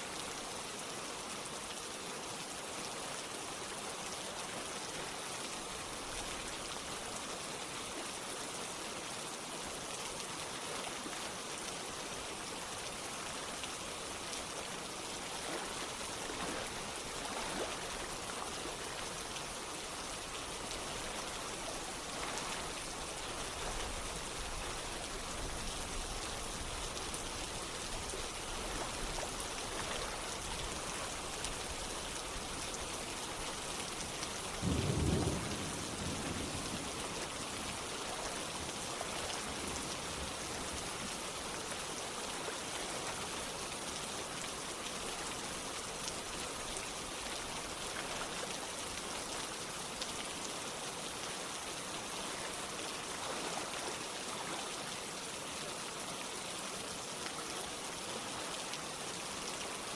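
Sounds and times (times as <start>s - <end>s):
running water: 0.0s - 59.9s
steady rain falling: 0.0s - 59.9s.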